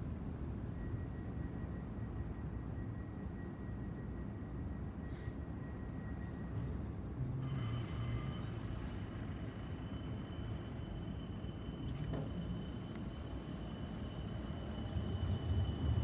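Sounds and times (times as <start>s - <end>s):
tram humming: 0.0s - 16.0s.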